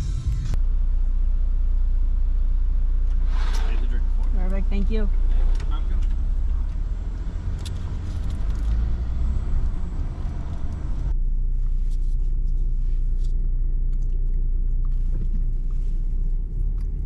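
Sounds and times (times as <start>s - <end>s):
car cabin low rumble: 0.0s - 17.0s.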